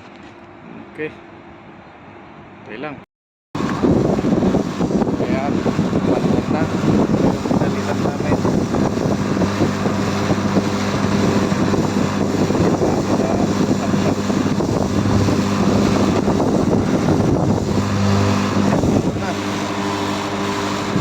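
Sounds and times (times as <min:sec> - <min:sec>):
compressor hum: 0:03.6 - 0:21.0
fan rushing: 0:03.6 - 0:21.0.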